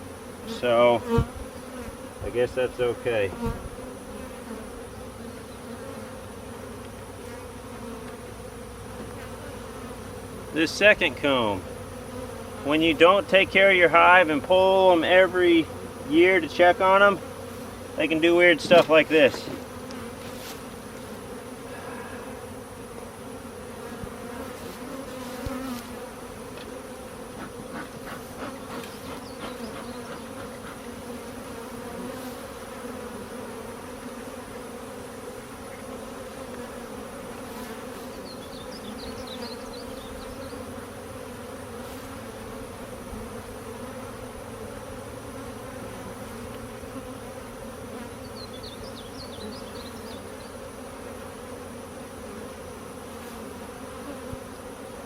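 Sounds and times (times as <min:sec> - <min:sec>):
bees buzzing: 0:00.0 - 0:55.0
knocks and scrapes of hive frames: 0:00.0 - 0:55.0.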